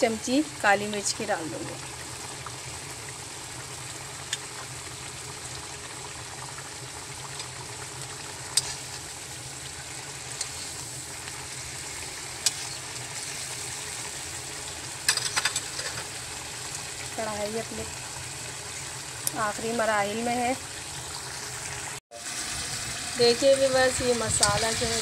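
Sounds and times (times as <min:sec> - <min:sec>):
gravy bubbling and sizzling: 0:00.0 - 0:25.0.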